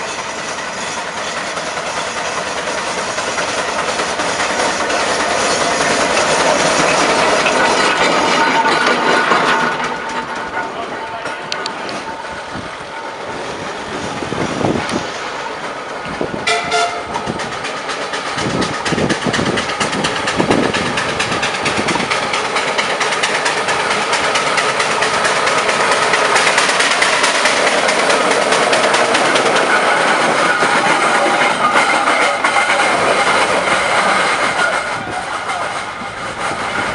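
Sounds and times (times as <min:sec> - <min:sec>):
steam traction engine clattering: 0:00.0 - 0:36.9.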